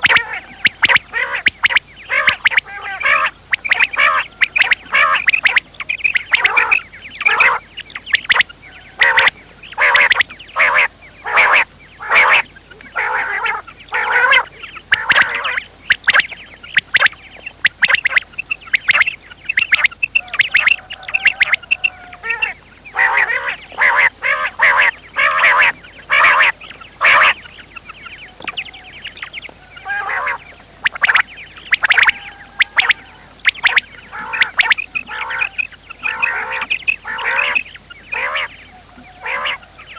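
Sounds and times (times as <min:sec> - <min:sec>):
waterfowl harsh calls: 0:00.0 - 0:39.9.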